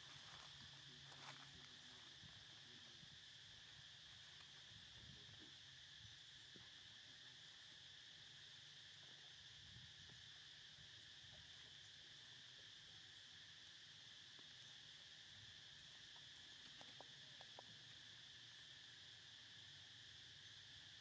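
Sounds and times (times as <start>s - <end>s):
insect chorus buzzing: 0.0s - 21.0s.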